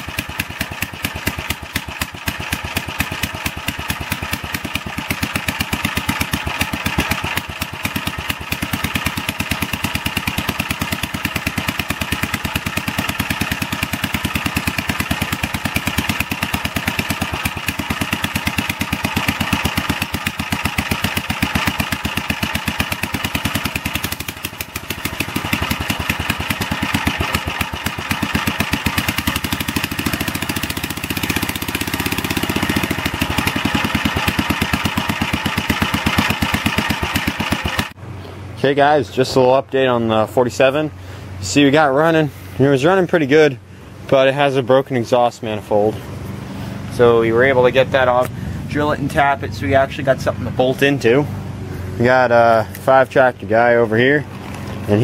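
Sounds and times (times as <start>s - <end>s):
single-cylinder engine running: 0.0s - 39.2s, 39.8s - 55.0s.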